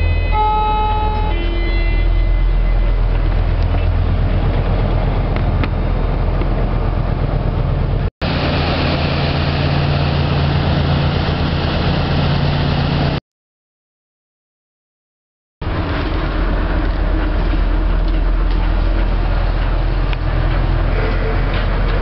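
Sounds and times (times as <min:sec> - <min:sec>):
low engine drone: 0:00.0 - 0:13.2, 0:15.6 - 0:22.0.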